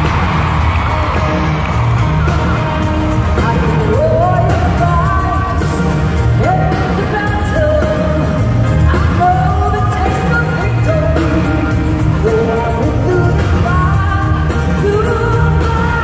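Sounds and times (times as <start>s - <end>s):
arena crowd: 0.0s - 16.0s
band playing country music: 0.0s - 16.0s
man and woman singing duet: 2.0s - 16.0s.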